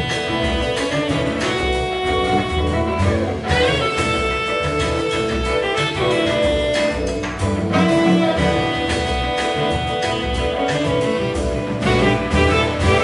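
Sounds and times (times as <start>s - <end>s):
jazz band playing: 0.0s - 13.0s.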